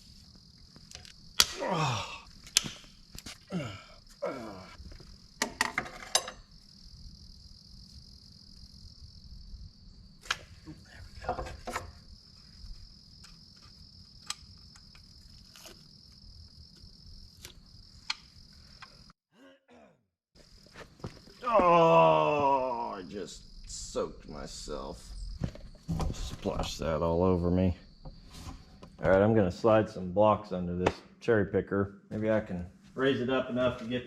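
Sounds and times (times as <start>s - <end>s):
crickets chirring: 0.0s - 19.2s, 20.4s - 30.8s.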